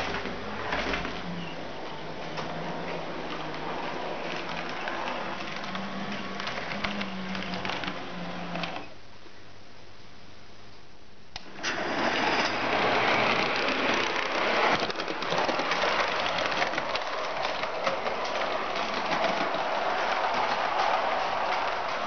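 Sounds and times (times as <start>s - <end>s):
model tram whirring on rails: 0.0s - 8.9s, 11.4s - 22.0s.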